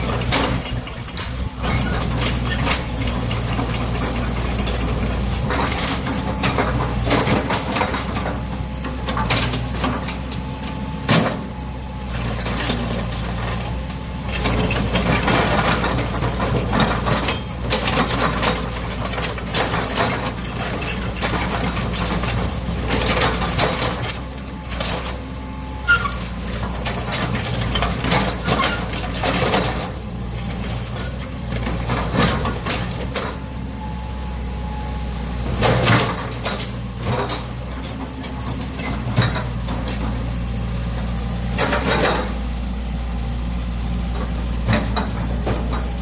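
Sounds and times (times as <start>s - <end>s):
machine knocks and clanks: 0.0s - 10.3s, 11.0s - 11.5s, 14.3s - 25.2s, 25.9s - 33.6s, 35.4s - 40.3s, 41.5s - 42.4s, 44.1s - 46.0s
excavator diesel engine running: 0.0s - 46.0s.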